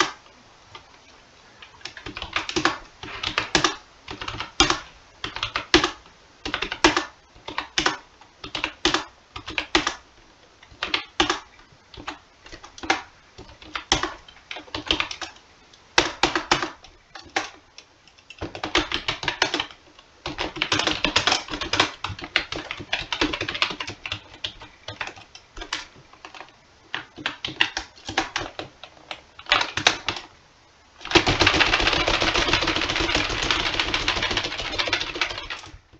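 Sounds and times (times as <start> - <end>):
computer keyboard typing: 1.6 - 10.0, 10.6 - 15.4, 16.0 - 30.3, 31.0 - 35.9.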